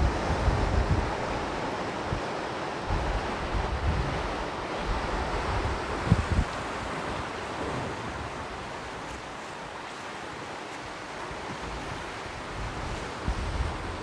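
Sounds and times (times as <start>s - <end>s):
waves breaking on beach: 0.0s - 14.0s
wind buffeting microphone: 0.0s - 14.0s.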